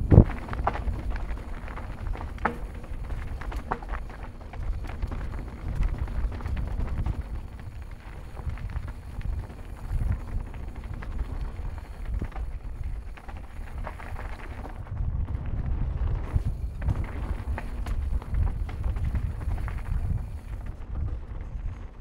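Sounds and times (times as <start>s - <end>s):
bike tyres rattling and clicking: 0.0s - 22.0s
wind rumbling on microphone: 0.0s - 22.0s.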